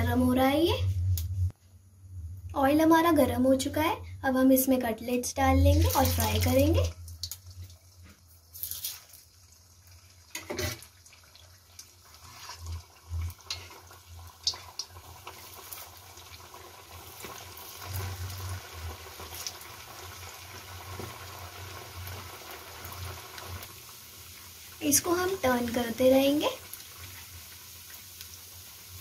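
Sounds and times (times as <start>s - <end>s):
oil sizzling and bubbling: 0.0s - 29.0s.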